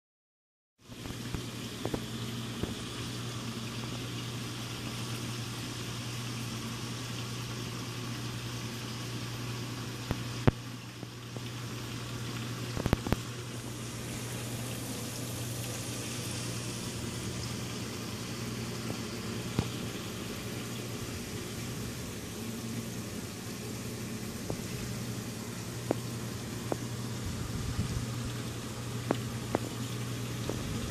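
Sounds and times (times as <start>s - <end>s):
pump electrical hum: 0.8s - 30.9s
water bubbling and trickling: 0.8s - 30.9s.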